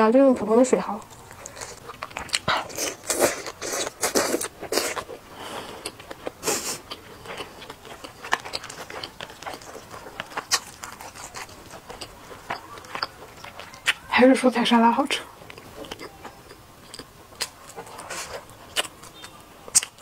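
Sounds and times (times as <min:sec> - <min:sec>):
chewing and wet mouth sounds: 0:00.8 - 0:20.0.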